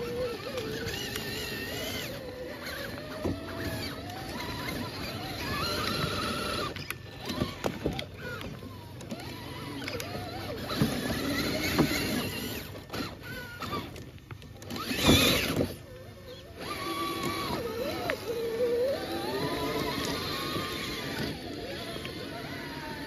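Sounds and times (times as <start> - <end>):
stones clicking under tires: 0.0 - 22.7
rc car motors whining: 0.0 - 23.0.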